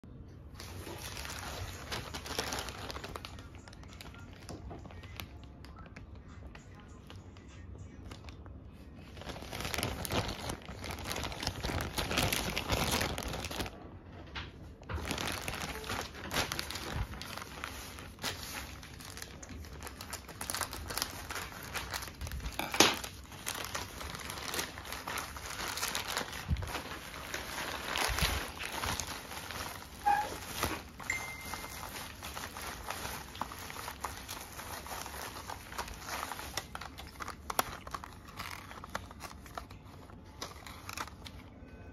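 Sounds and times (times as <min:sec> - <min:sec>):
plastic mailer bag crinkling: 0:00.4 - 0:41.6
plastic tearing: 0:00.5 - 0:41.6.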